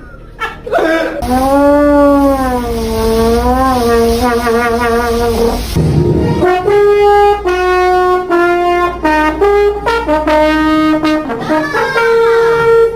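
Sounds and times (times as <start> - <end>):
person imitating a trumpet: 0.8 - 5.8, 6.4 - 12.9.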